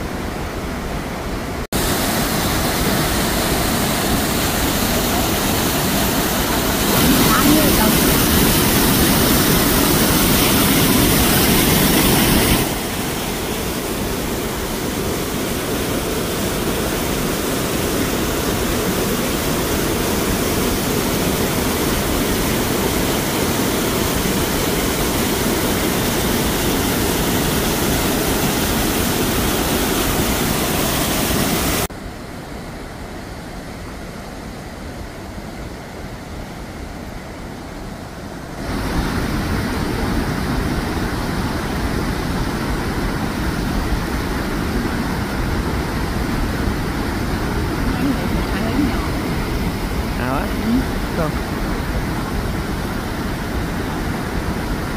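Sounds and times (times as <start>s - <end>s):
waterfall rushing water: 0.0s - 54.9s.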